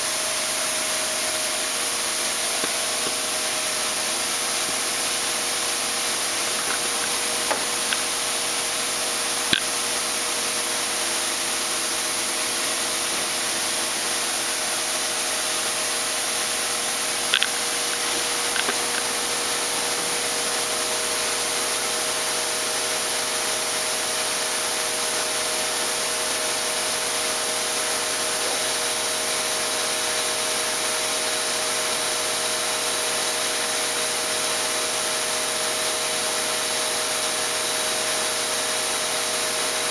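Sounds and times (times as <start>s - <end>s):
machining center hiss and hum: 0.0s - 39.9s.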